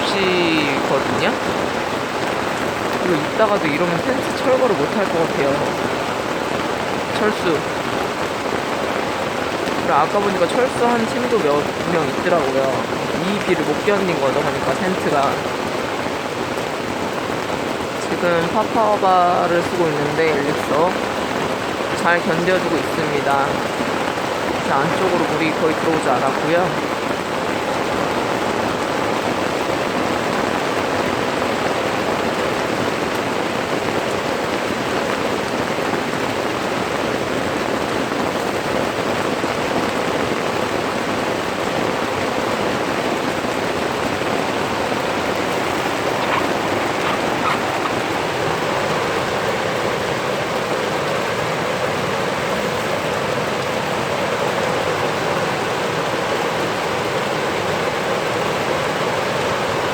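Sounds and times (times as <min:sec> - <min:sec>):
torrential rain falling: 0:00.0 - 0:59.9.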